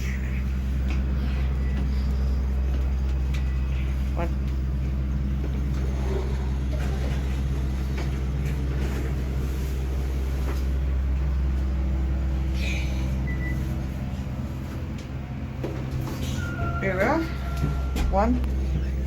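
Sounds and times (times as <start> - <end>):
elevator low hum: 0.0 - 19.0.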